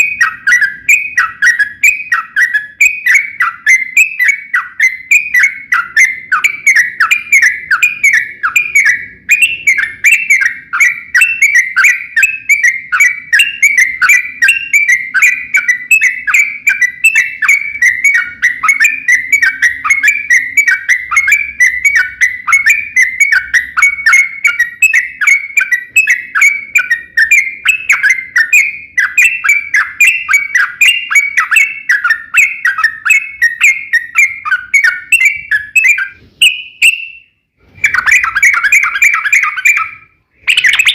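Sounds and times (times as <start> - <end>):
bulbul chattering song: 0.0 - 40.9.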